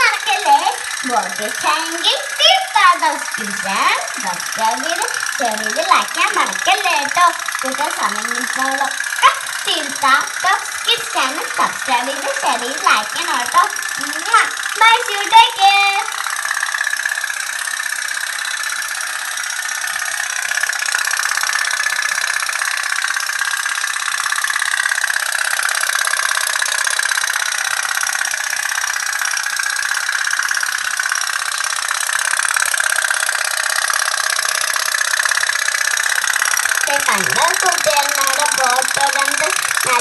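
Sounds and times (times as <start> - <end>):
steam toy boat ticking: 0.0 - 40.0.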